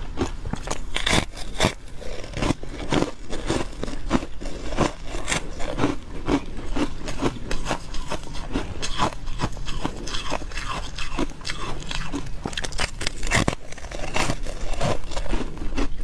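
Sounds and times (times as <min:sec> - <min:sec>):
ice crunching in mouth: 0:00.0 - 0:16.0.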